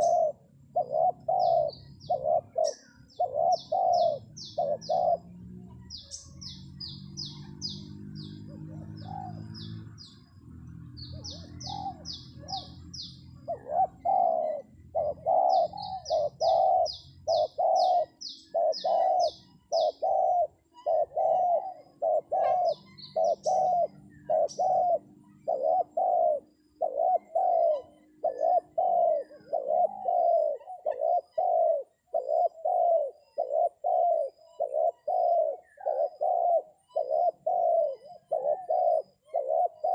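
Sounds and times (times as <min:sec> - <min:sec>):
dove cooing: 0:00.0 - 0:10.2, 0:10.8 - 0:39.9
small bird chirping: 0:00.0 - 0:39.9.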